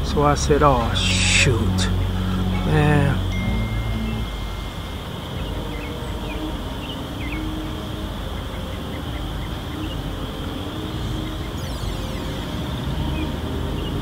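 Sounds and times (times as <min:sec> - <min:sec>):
birds chirping: 0:00.0 - 0:14.0
drone propellers buzzing: 0:00.0 - 0:14.0.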